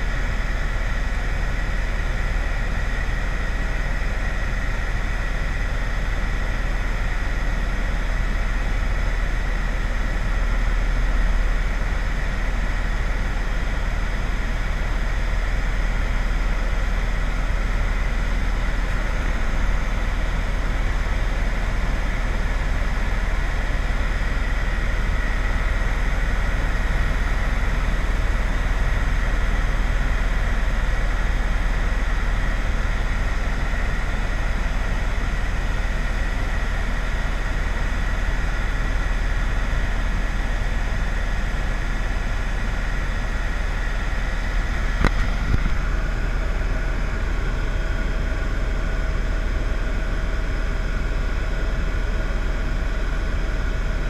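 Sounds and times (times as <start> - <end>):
vehicle engine rumble and whine: 0.0 - 54.0.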